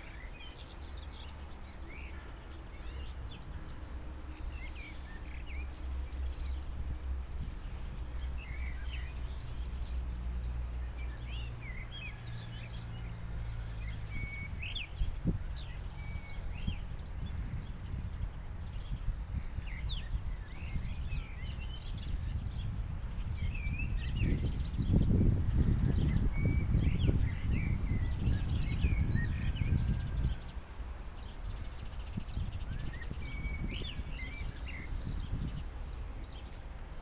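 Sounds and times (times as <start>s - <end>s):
low rumbling background noise: 0.0s - 37.0s
songbirds chirping: 0.0s - 37.0s.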